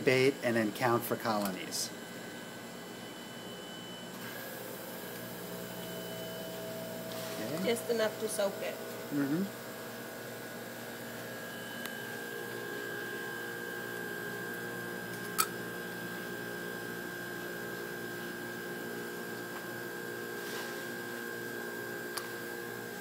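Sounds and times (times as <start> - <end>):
equipment hum with high whine: 0.0 - 23.0.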